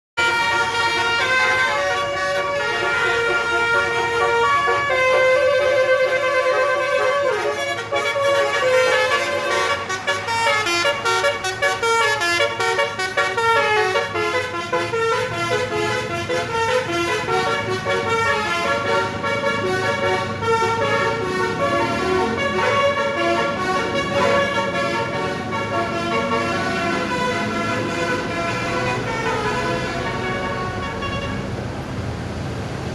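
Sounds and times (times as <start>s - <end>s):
multi-tone bus air horns: 0.2s - 31.6s.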